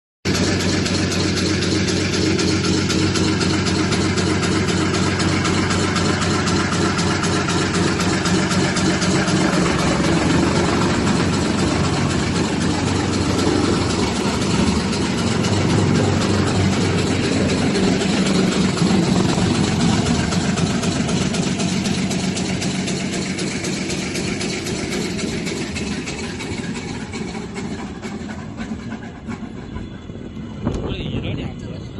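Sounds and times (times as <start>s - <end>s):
grinder mill droning: 0.3s - 29.5s.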